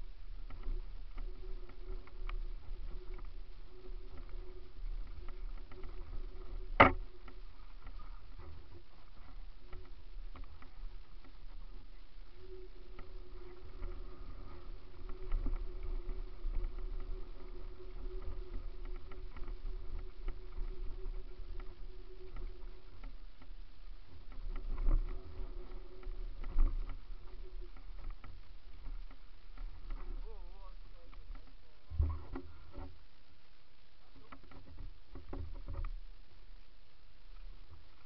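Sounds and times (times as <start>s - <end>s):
mountain bike rumble and rattle: 0.0s - 33.0s
steady whirring tone: 0.0s - 38.0s.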